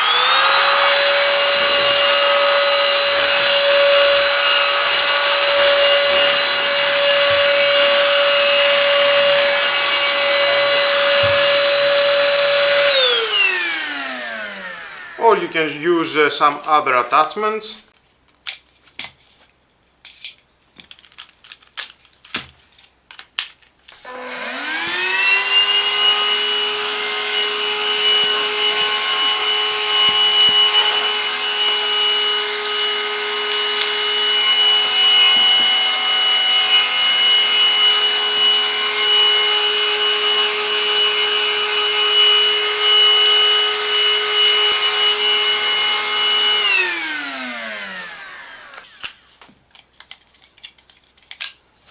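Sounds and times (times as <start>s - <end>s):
vacuum cleaner motor whining: 0.0s - 17.2s, 24.0s - 49.2s.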